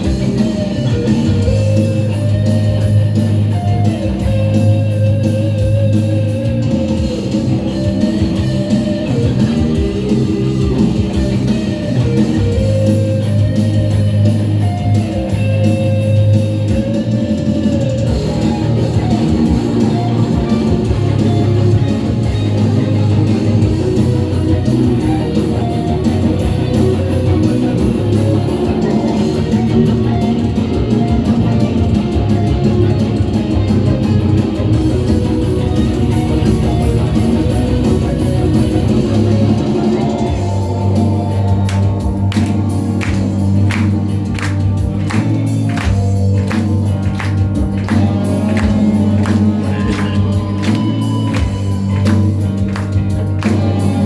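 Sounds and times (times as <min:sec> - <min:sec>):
live heavy metal band: 0:00.0 - 0:54.0.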